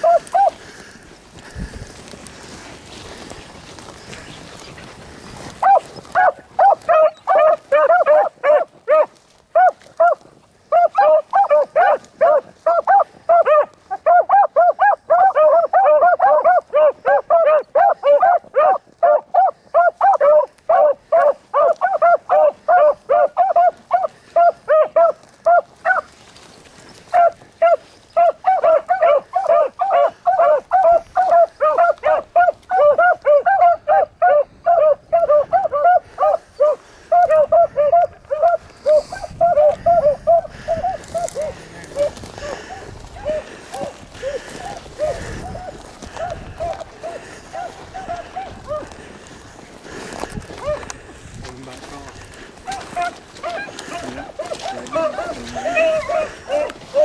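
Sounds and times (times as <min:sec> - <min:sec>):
pack of hounds baying: 0:00.0 - 0:57.0.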